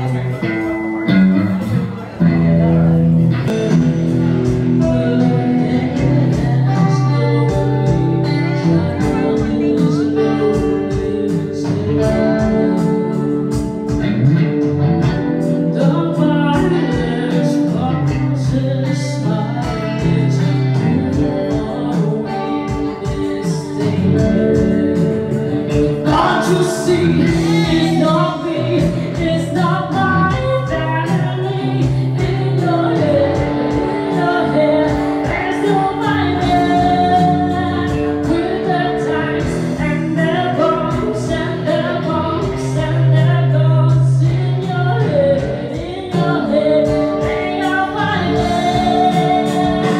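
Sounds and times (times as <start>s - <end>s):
guitar playing: 0.0s - 49.9s
woman singing into microphone: 4.4s - 14.4s, 15.0s - 49.9s.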